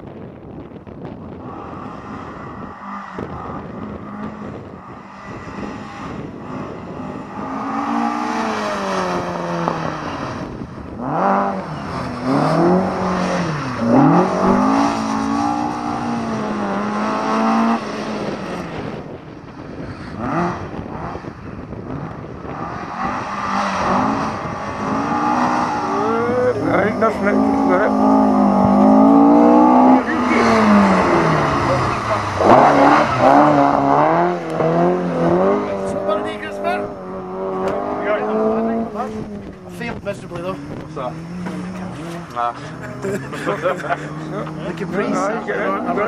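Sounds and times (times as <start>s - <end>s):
car engine revving hard: 1.3s - 46.0s.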